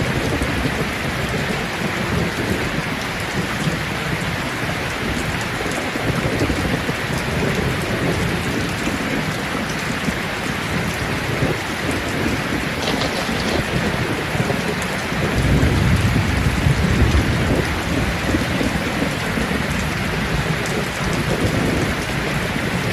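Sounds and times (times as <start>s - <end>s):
rain falling on leaves: 0.0s - 22.9s.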